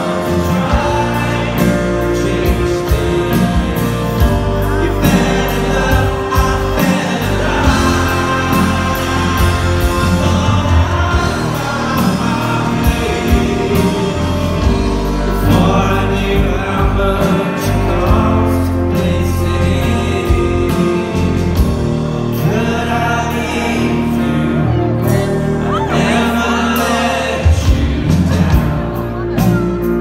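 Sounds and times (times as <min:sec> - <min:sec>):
man singing: 0:00.0 - 0:30.0
rock band playing live: 0:00.0 - 0:30.0.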